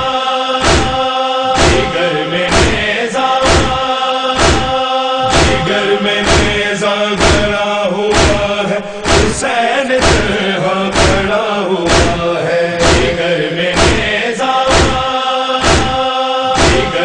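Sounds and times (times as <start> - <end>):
male chorus chanting: 0.0 - 17.0
hands beating chests: 0.6 - 9.4, 10.0 - 13.2, 13.8 - 14.1, 14.7 - 17.0.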